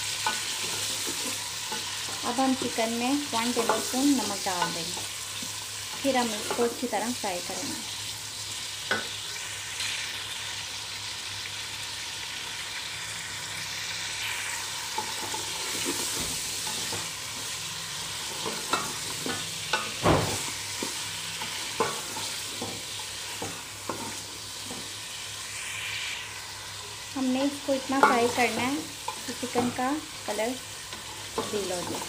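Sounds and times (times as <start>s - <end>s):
chicken and onions sizzling in oil: 0.0s - 32.0s.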